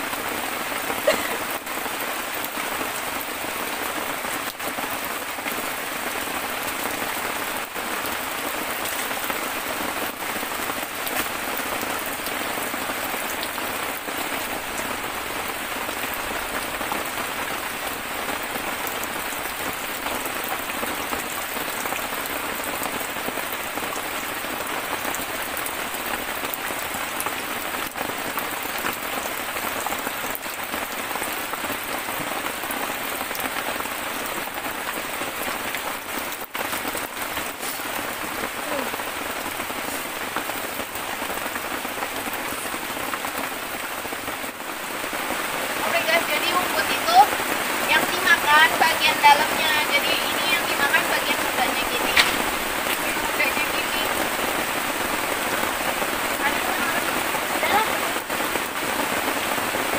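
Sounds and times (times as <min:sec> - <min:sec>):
rain on foliage: 0:00.0 - 0:59.9.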